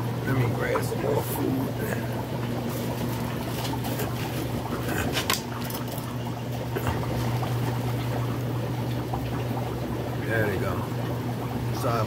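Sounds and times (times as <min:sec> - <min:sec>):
aquarium water churning: 0:00.0 - 0:12.0
filter humming: 0:00.0 - 0:12.0.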